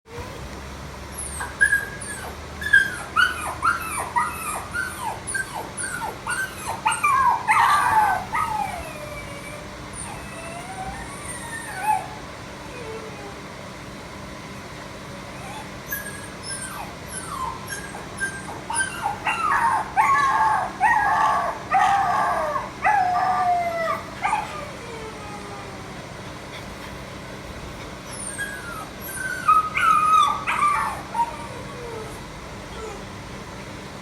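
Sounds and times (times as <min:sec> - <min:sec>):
dog whining and howling: 0:01.1 - 0:13.5, 0:15.3 - 0:26.7, 0:27.8 - 0:33.2.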